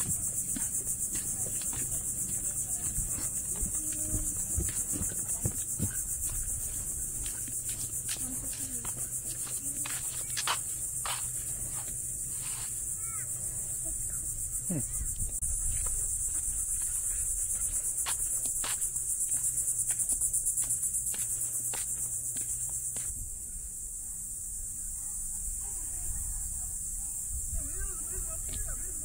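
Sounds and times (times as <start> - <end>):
insect chorus trilling: 0.0 - 29.0.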